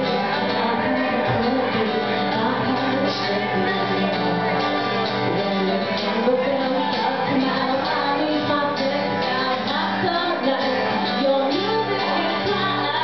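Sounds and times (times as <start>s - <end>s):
guitar accompaniment: 0.0s - 13.0s
woman singing into microphone: 0.0s - 13.0s.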